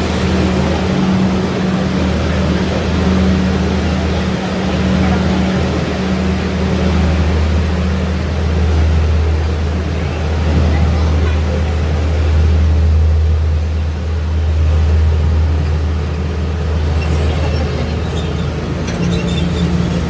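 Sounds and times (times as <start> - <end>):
miniature train low drone: 0.0 - 20.0.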